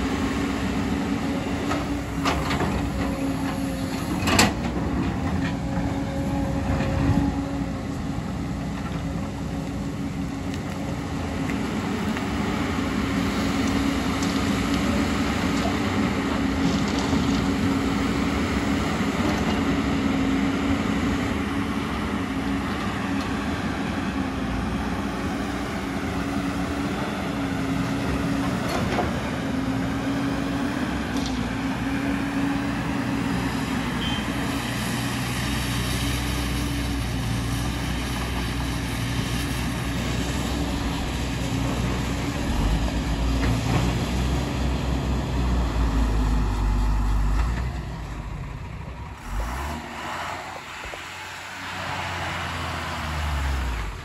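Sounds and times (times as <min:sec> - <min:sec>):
excavator diesel engine running: 0:00.0 - 0:54.0
truck engine drone: 0:00.0 - 0:54.0.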